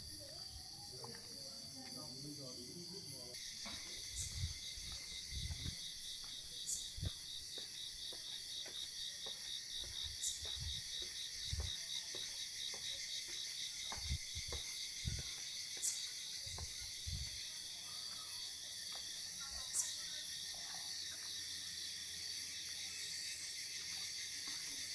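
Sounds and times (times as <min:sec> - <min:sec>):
crickets chirring: 0:00.0 - 0:24.9
constant high hiss: 0:02.0 - 0:24.9.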